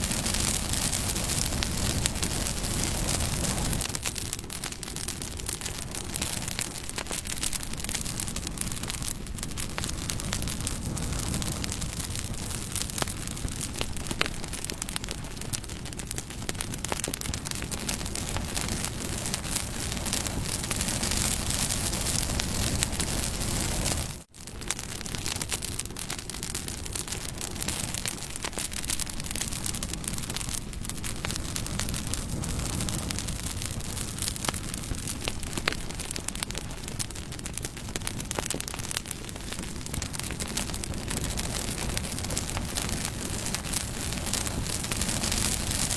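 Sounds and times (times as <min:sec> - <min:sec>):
flame rushing: 0:00.0 - 0:45.9
wood crackling and popping: 0:00.0 - 0:45.9.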